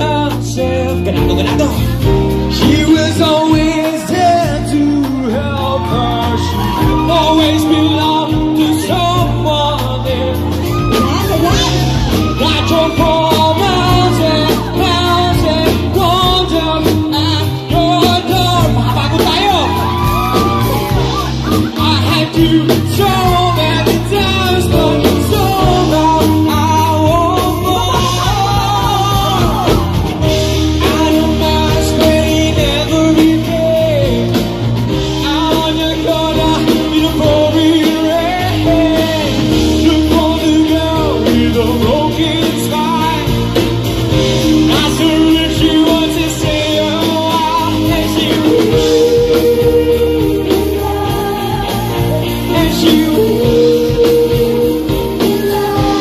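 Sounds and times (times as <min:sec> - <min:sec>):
drums: 0:00.0 - 0:56.0
electric guitar: 0:00.0 - 0:56.0
male singer: 0:00.0 - 0:56.0.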